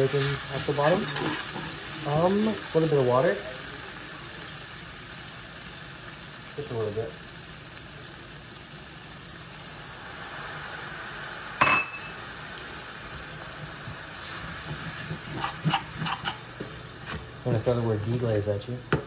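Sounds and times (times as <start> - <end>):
water sizzling in a hot pan: 0.0 - 19.0.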